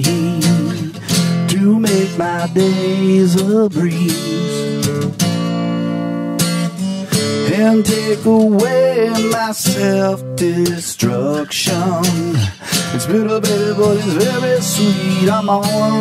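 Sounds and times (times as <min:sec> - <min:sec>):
man singing: 0:00.0 - 0:04.9, 0:07.1 - 0:16.0
acoustic guitar strumming: 0:00.0 - 0:16.0.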